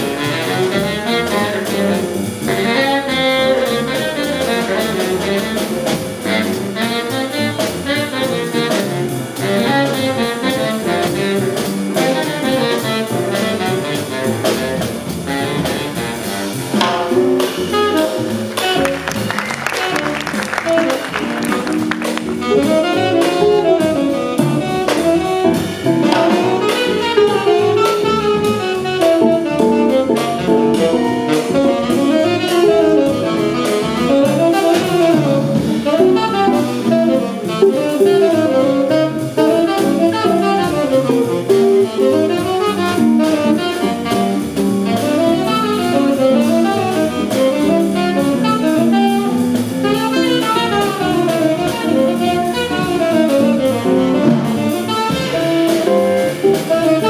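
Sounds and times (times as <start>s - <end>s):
double bass: 0.0s - 57.0s
drum kit swing rhythm: 0.0s - 57.0s
piano: 0.0s - 57.0s
saxophone melody: 0.0s - 57.0s.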